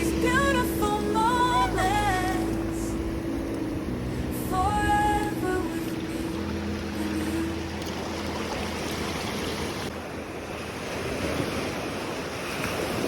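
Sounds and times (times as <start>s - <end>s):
sea surf washing onto beach: 0.0s - 13.0s.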